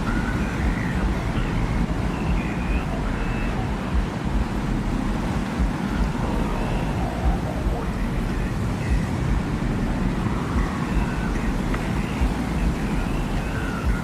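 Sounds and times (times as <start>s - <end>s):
desert wind rumbling: 0.0s - 14.0s
faint high whistling tones: 0.0s - 14.0s.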